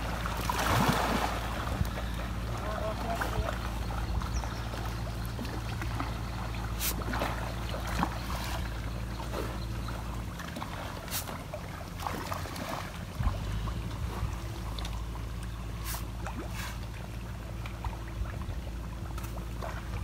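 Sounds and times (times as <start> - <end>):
fish splashing at water surface: 0.0 - 20.0
water noise: 0.0 - 20.0.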